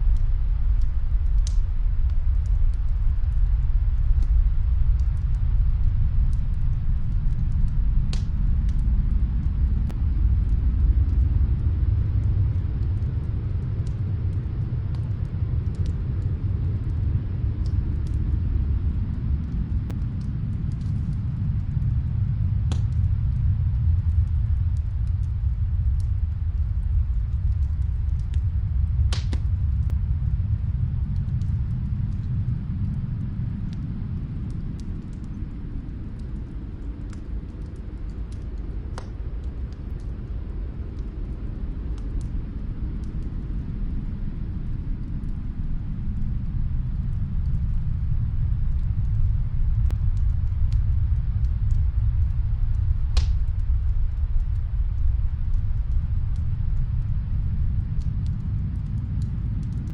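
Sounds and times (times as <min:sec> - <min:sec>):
fireplace crackling: 0:00.0 - 0:08.8, 0:12.2 - 0:59.9
fire pops: 0:00.0 - 0:30.0, 0:30.6 - 0:46.4, 0:47.0 - 0:59.9.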